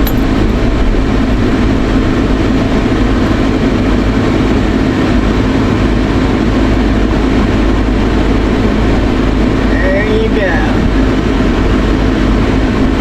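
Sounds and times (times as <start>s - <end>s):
vehicle cabin engine and road rumble: 0.0s - 13.0s.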